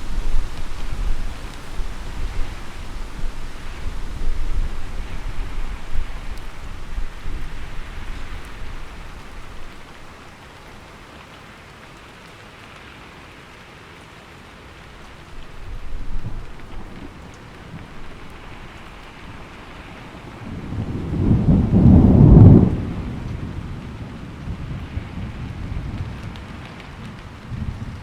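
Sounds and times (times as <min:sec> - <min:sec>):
thunder rumbling: 0:00.0 - 0:10.4, 0:15.2 - 0:28.0
heavy rain: 0:00.0 - 0:28.0.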